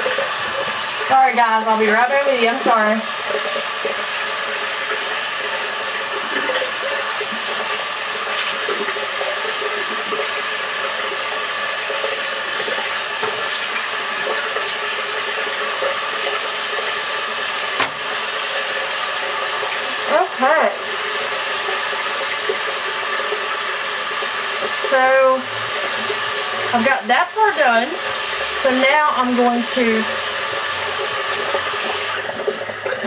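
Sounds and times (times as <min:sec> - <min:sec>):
tap water running into sink: 0:00.0 - 0:33.0.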